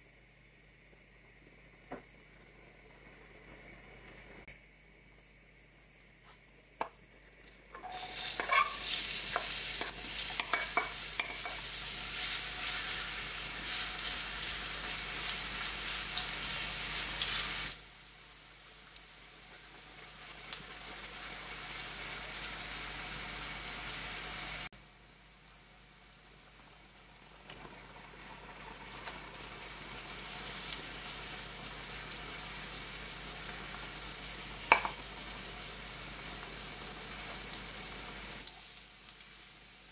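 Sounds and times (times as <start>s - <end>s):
onions sizzling in hot oil: 7.5s - 39.9s.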